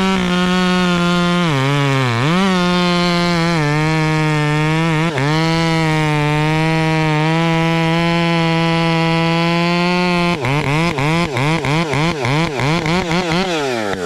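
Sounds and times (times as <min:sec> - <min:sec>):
chainsaw running at high revs: 0:00.0 - 0:14.0.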